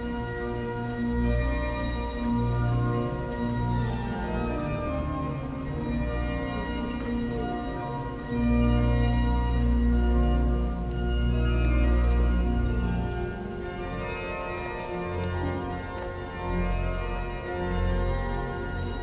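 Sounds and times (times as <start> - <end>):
church organ playing chords: 0.0 - 19.0.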